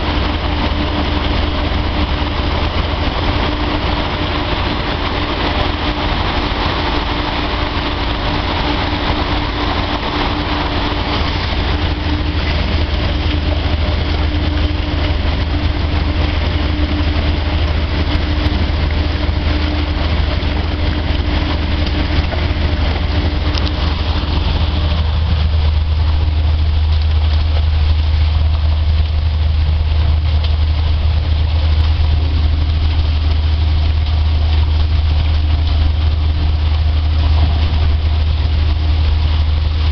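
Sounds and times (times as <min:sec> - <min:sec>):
heavy machinery deep hum: 0:00.0 - 0:39.9.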